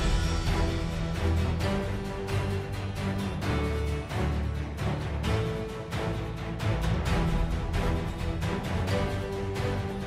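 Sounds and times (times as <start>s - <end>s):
music with held notes and percussion: 0.0s - 10.0s.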